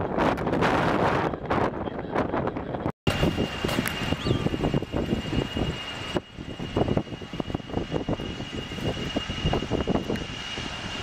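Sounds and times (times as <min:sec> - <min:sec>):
airplane engine noise: 0:00.0 - 0:11.0
wind gusts on microphone: 0:00.0 - 0:11.0.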